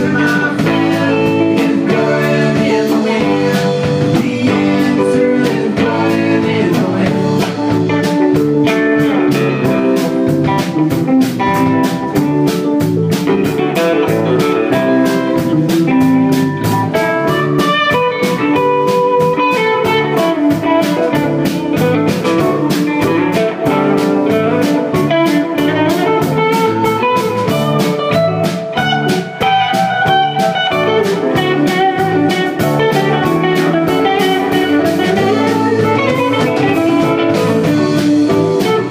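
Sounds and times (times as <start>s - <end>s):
lead guitar line: 0.0s - 38.9s
live rock band playing: 0.0s - 38.9s.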